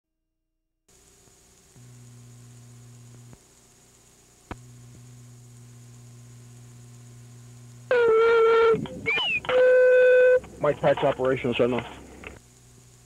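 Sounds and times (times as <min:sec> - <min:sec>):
electrical mains hum: 0:00.9 - 0:13.0.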